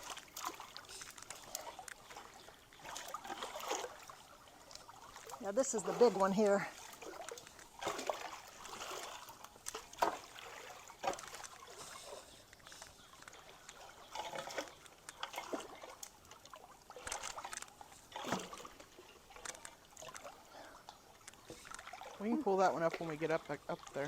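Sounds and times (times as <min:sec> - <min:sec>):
creek water trickling: 0:00.0 - 0:24.0
water splashing and sloshing: 0:00.0 - 0:24.0.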